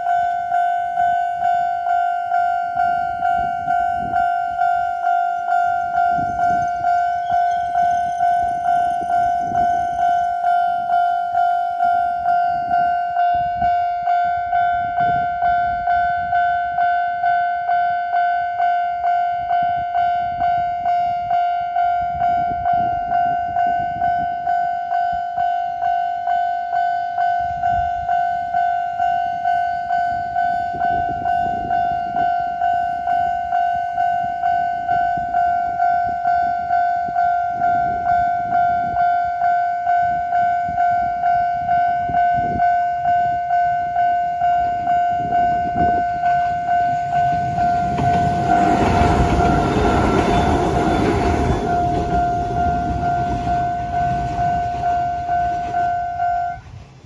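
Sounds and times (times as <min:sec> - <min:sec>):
level-crossing warning bell ringing: 0:00.0 - 0:56.8
train rumbling on rails: 0:00.0 - 0:57.0.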